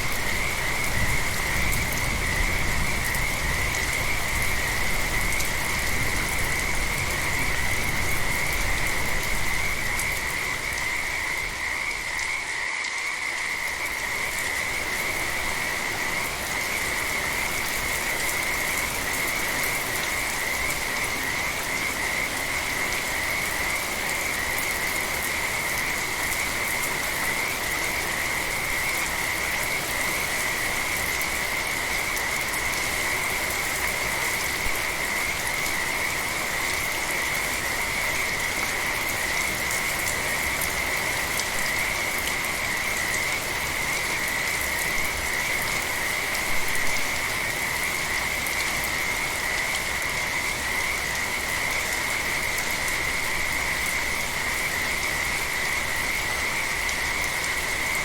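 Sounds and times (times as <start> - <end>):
frogs trilling chorus: 0.0 - 58.0
light rain falling: 0.0 - 58.0.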